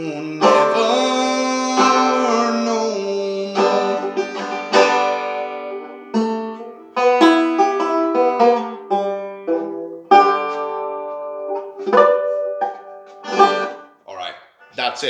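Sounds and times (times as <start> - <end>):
banjo plucked and strummed: 0.0 - 14.0.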